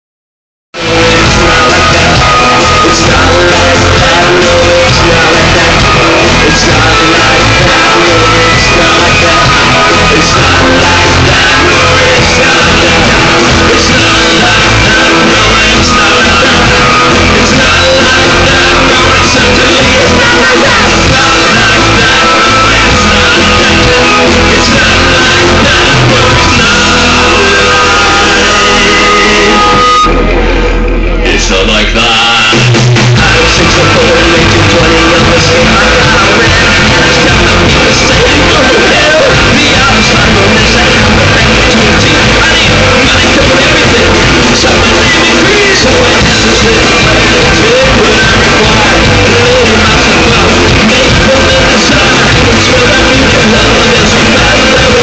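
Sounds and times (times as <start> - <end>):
rock band playing live: 0.7 - 55.0
person singing: 0.8 - 55.0.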